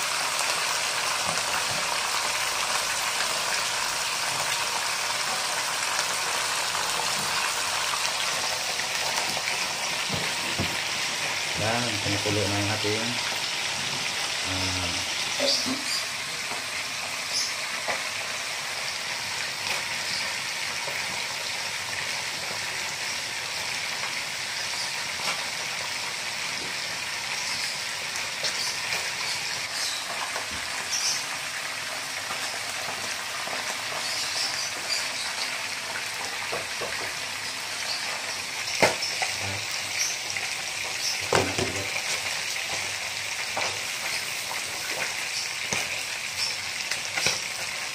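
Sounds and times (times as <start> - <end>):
pot boiling and bubbling: 0.0 - 47.9.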